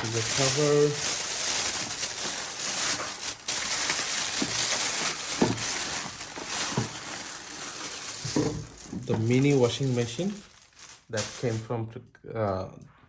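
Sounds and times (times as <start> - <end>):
plastic packaging crinkling: 0.0 - 11.7.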